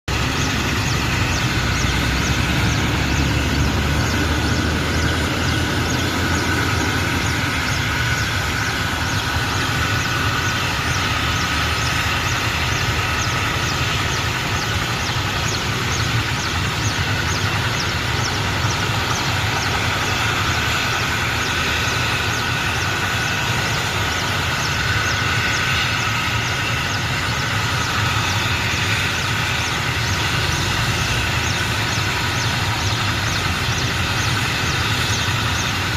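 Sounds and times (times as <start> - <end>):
helicopter running: 0.0 - 35.9.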